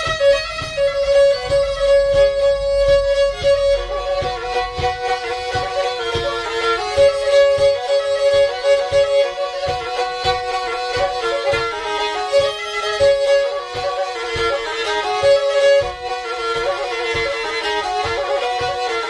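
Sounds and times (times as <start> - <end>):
bowed string folk melody: 0.0 - 19.0
steady drum beat: 0.0 - 19.0.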